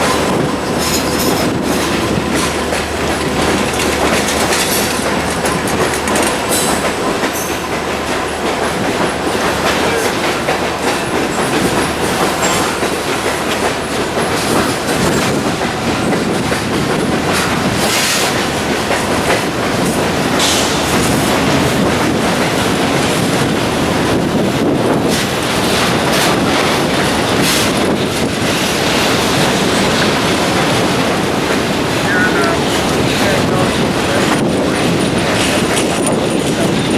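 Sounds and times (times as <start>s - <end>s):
freight train rumbling past: 0.0s - 36.9s
wheels clicking over rail joints: 0.0s - 36.9s.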